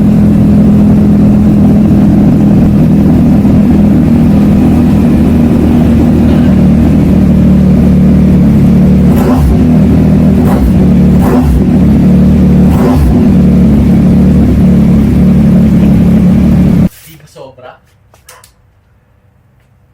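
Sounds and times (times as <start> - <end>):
motorcycle engine running loud: 0.0 - 16.9
sharp exhaust bursts: 0.0 - 16.9.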